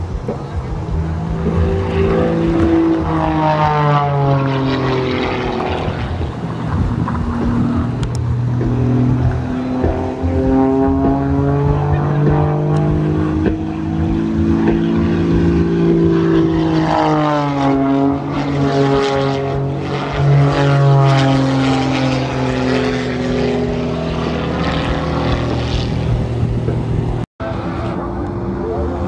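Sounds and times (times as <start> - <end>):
propeller plane engine revving: 0.0 - 29.0.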